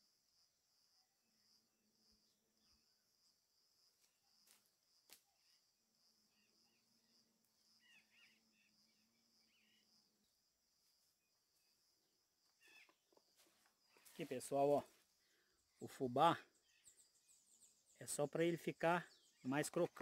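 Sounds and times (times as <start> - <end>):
high hum of insects: 0.0 - 20.0.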